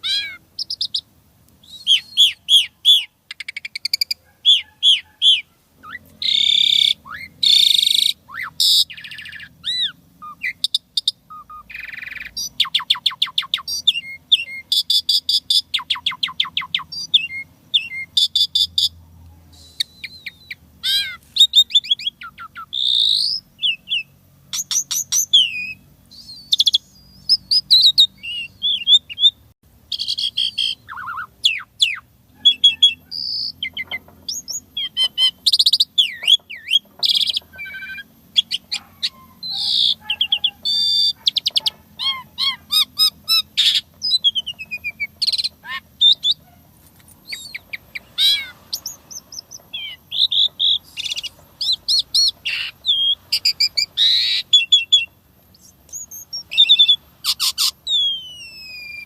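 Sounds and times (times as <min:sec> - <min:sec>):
starling singing whistles and chirps: 0:00.0 - 0:59.0.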